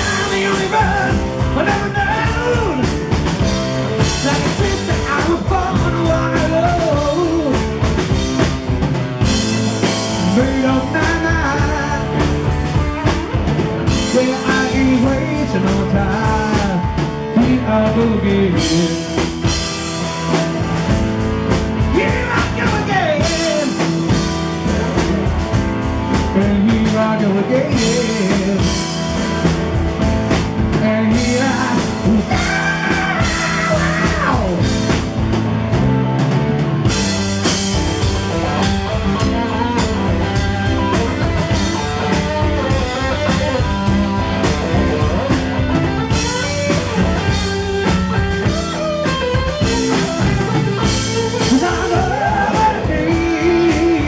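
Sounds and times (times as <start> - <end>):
drum kit beat: 0.0 - 54.0
electric guitar lead lines: 0.0 - 54.0.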